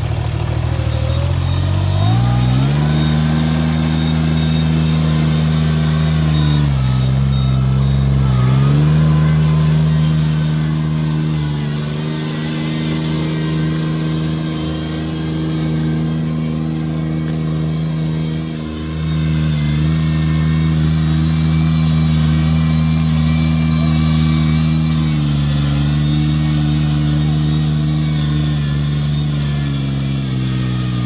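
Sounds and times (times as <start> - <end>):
farm machine engine running: 0.0 - 31.0.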